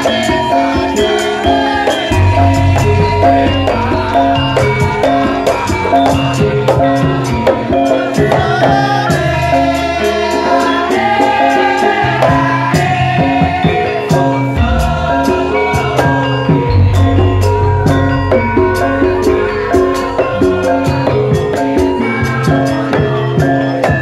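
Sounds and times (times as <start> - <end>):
person singing: 0.0 - 24.0
sharp percussion strikes: 0.0 - 24.0
traditional ensemble sustained tones: 0.0 - 24.0.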